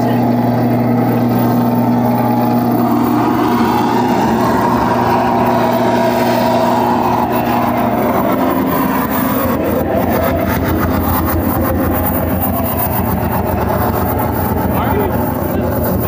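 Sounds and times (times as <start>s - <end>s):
electronic noise drone: 0.0s - 16.0s
rapid stuttering pulse: 0.0s - 16.0s.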